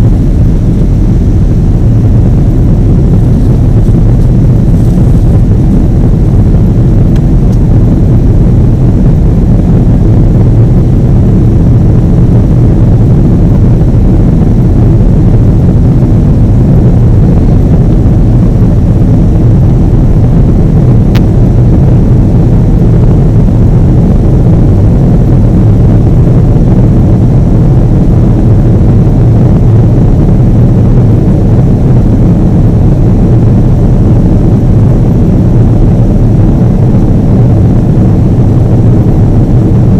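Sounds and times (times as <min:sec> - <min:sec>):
jet engines roaring in cabin: 0:00.0 - 0:39.9
rushing air: 0:00.0 - 0:39.9.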